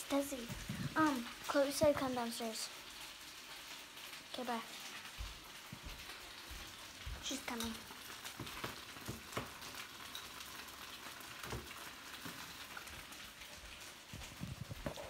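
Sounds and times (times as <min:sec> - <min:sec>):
dumplings sizzling in oil: 0:00.0 - 0:15.0.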